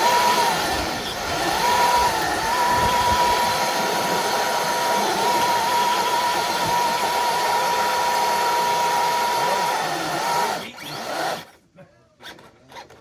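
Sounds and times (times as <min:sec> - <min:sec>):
electric motor whining: 0:00.0 - 0:11.5.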